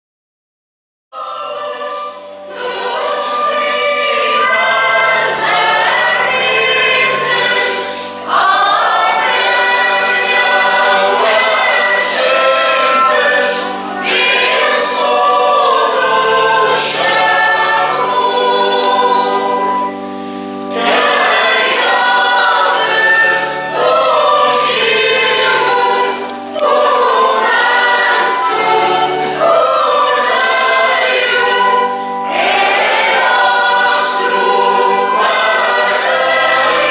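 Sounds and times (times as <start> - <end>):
choir singing a hymn: 1.2 - 36.9.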